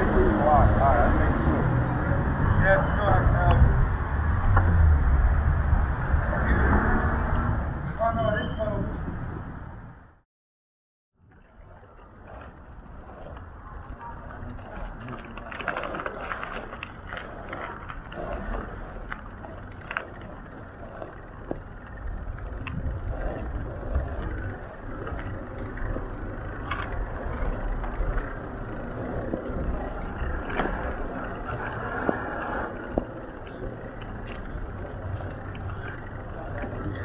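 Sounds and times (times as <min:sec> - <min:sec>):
passing vehicle traffic rumble: 0:00.0 - 0:10.2, 0:11.2 - 0:37.0.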